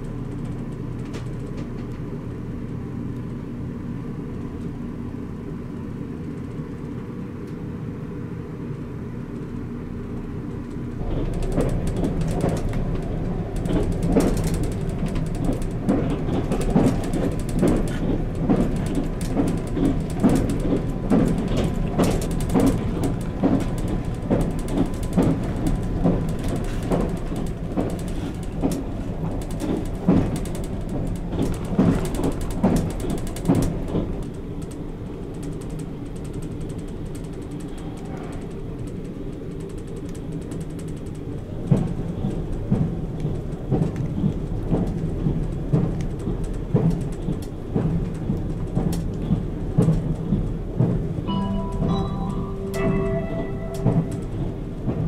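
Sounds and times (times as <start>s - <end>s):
train drone inside compartment: 0.0s - 55.0s.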